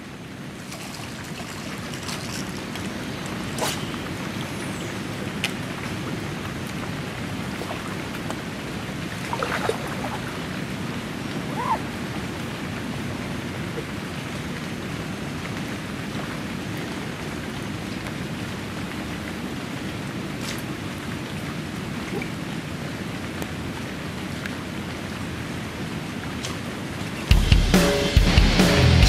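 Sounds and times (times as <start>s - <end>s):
rain falling on water: 0.0s - 27.4s.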